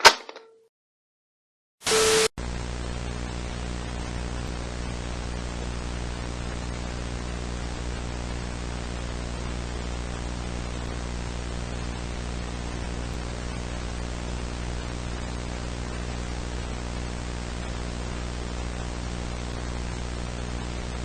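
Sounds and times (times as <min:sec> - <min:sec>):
static hiss: 0:01.8 - 0:21.0.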